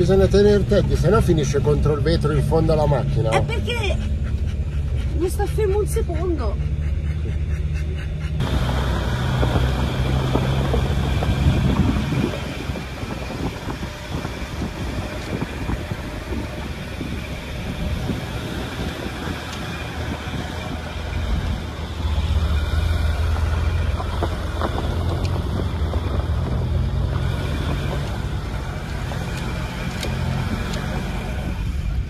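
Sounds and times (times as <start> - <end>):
engine and tyre rumble on gravel: 0.0 - 32.0.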